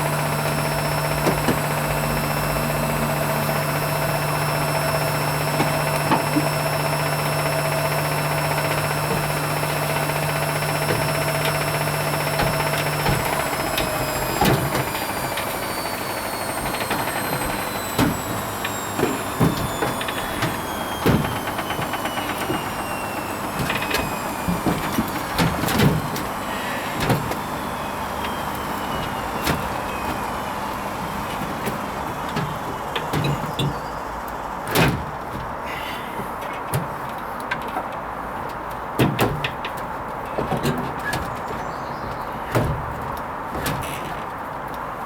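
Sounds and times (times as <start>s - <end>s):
washing machine motor whine: 0.0s - 36.3s.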